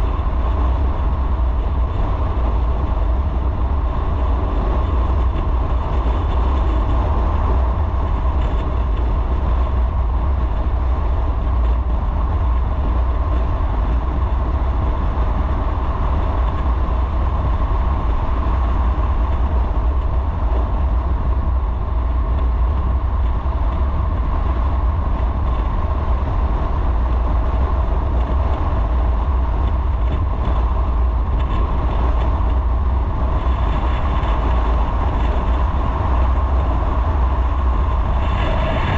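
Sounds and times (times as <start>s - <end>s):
motorcycle engine and road noise: 0.0s - 38.9s.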